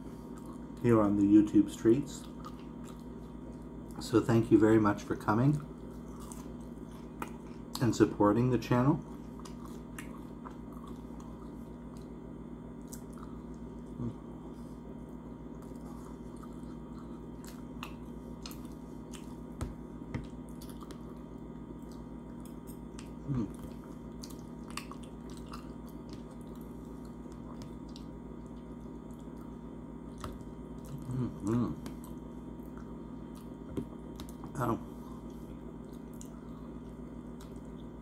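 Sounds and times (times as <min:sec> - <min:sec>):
person chewing food: 0:00.0 - 0:00.8, 0:02.2 - 0:04.0, 0:05.6 - 0:07.9, 0:09.0 - 0:38.0
low room hum: 0:00.0 - 0:38.0.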